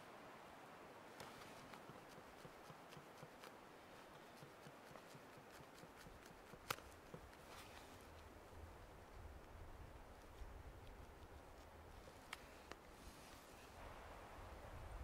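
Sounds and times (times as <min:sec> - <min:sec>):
faint forest ambience: 0:00.0 - 0:15.0.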